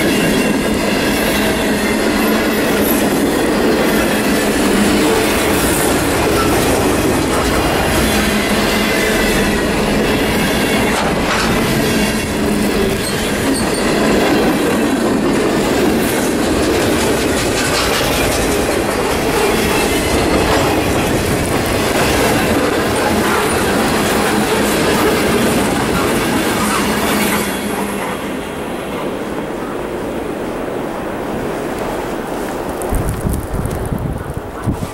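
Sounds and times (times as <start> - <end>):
train wheel squeal: 0.0 - 29.9
freight train rolling past: 0.0 - 34.9.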